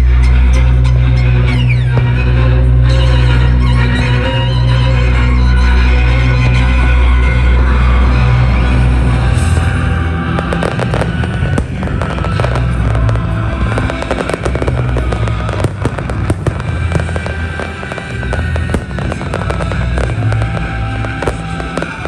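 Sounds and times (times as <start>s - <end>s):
loud music with low bass: 0.0s - 22.0s
fireworks crackling and popping: 1.3s - 22.0s.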